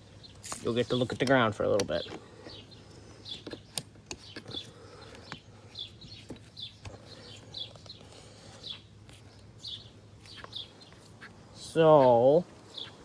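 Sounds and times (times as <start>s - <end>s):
small bird chirping: 0.1s - 13.0s.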